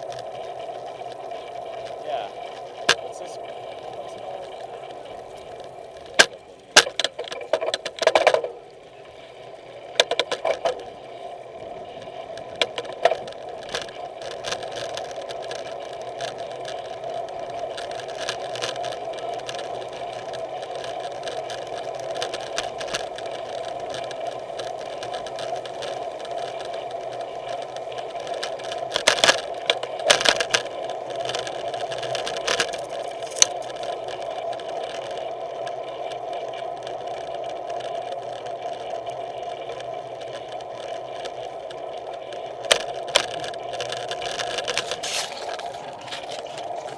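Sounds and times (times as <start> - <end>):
bicycle rattling and clacking: 0.0 - 46.9
bicycle wheels whirring: 0.0 - 46.9.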